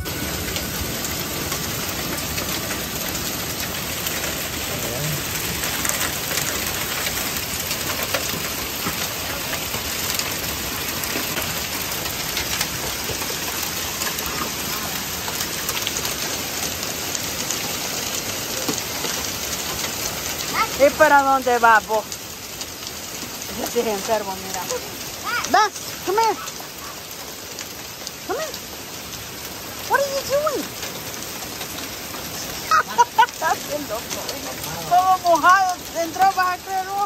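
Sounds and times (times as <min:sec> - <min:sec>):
heavy rain pouring: 0:00.0 - 0:37.0
sharp rain taps: 0:00.0 - 0:37.0.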